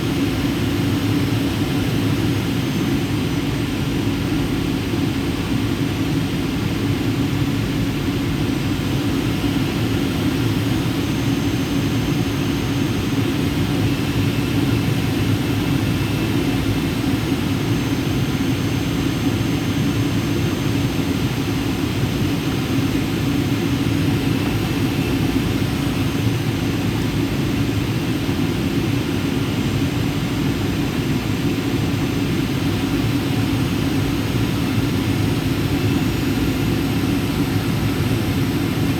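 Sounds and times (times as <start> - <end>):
constant low hum: 0.0 - 38.9
jet engine and airflow drone: 0.0 - 38.9.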